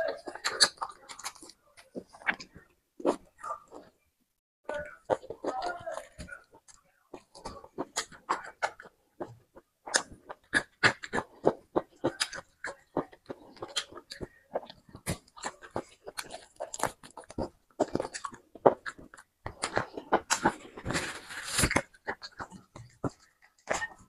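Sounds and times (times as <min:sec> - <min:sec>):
person chewing food: 0:00.0 - 0:04.0, 0:04.7 - 0:24.0.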